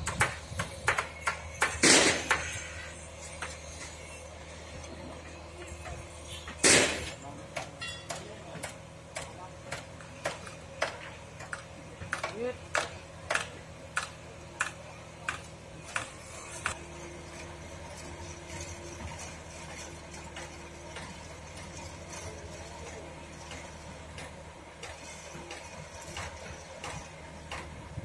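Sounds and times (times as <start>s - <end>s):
crane engine running: 0.0s - 28.0s.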